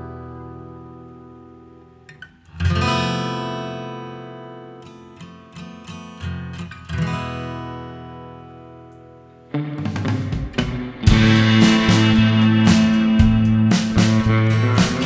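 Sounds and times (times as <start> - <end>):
acoustic guitar strummed and plucked: 0.0 - 15.0.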